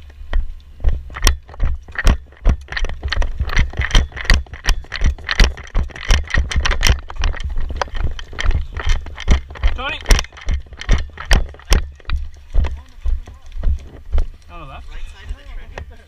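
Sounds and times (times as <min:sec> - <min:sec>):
gear rattling and knocking: 0:00.0 - 0:14.5
running footsteps: 0:00.0 - 0:16.0.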